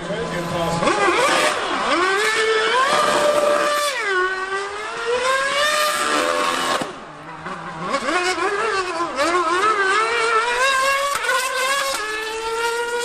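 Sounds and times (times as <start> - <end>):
racing engine revving: 0.0 - 13.0.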